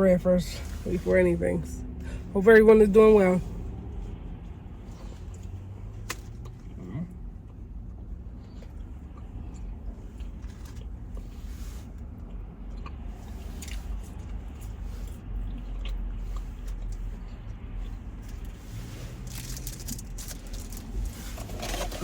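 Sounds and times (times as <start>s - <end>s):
person chewing bread: 4.3s - 22.0s.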